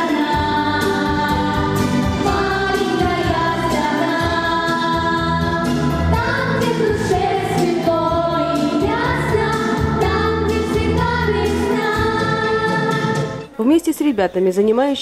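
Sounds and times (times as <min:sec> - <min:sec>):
girls singing together: 0:00.0 - 0:13.4
instrumental accompaniment with bass: 0:00.0 - 0:13.6.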